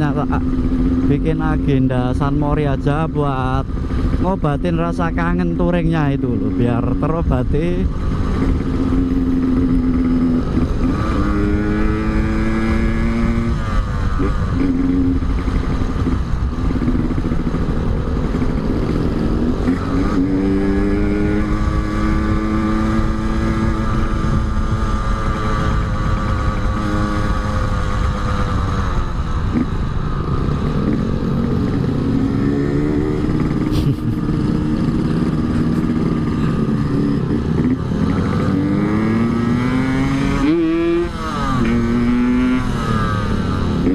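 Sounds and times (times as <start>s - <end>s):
motorcycle engine accelerating: 0.0s - 43.9s
wind and road noise: 0.0s - 43.9s.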